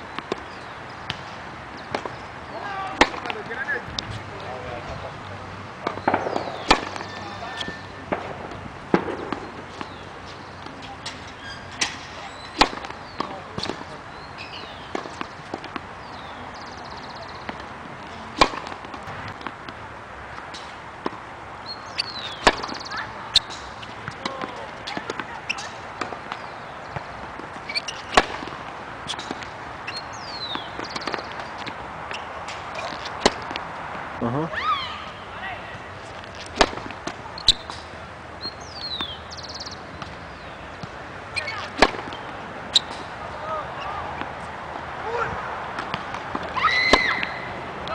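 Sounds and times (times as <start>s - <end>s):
racket hitting tennis ball: 0.1s - 4.1s, 5.8s - 21.3s, 21.9s - 33.8s, 36.0s - 47.9s.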